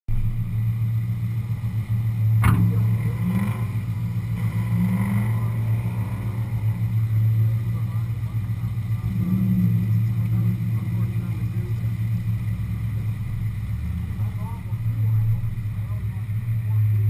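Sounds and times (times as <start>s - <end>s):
car engines rumbling: 0.1s - 17.0s.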